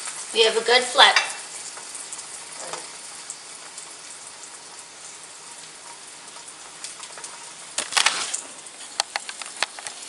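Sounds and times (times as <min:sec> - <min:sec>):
egg sizzling in a pan: 0:00.0 - 0:10.0.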